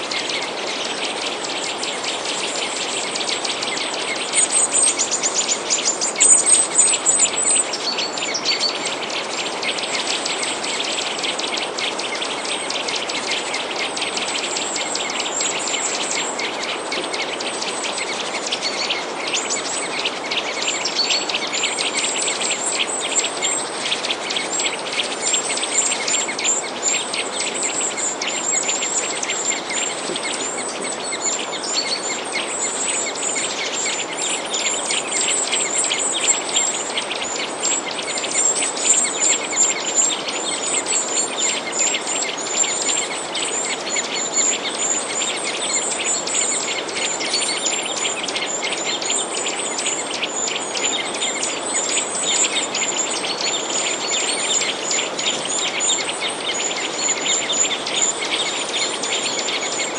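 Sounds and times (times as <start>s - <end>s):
small birds chirping: 0.0s - 59.9s
steady background hiss: 0.0s - 59.9s.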